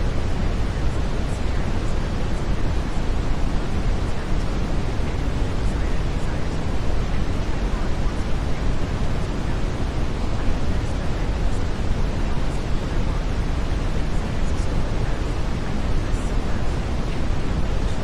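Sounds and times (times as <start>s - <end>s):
brown noise hiss: 0.0s - 18.0s.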